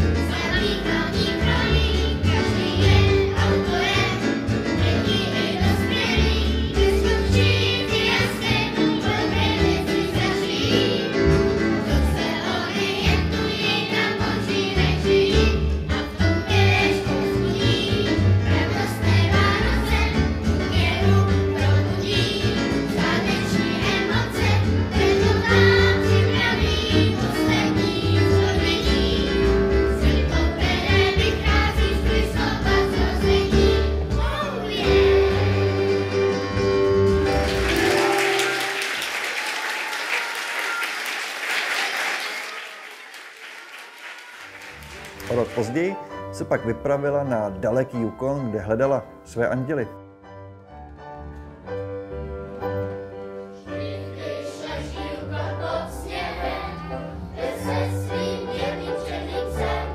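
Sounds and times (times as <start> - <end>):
children's choir singing: 0.0 - 45.9, 53.4 - 59.9.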